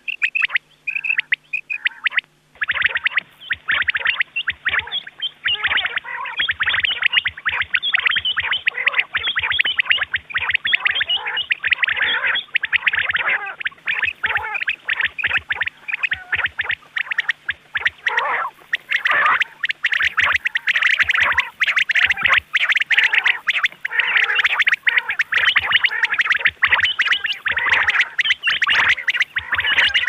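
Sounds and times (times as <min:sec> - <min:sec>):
quail chirping calls: 0:00.0 - 0:30.0.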